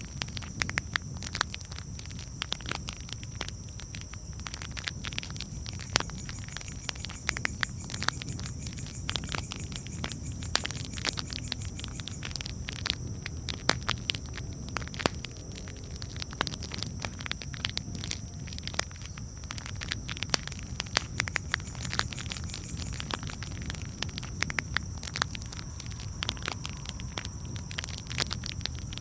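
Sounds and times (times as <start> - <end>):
campfire crackling: 0.1 - 29.0.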